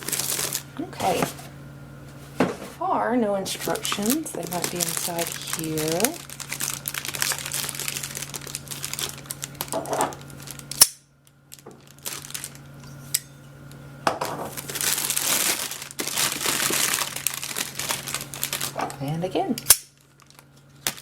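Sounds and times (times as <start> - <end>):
packaging crinkling: 0.0 - 1.5, 3.5 - 13.1, 14.4 - 19.1, 19.8 - 21.0.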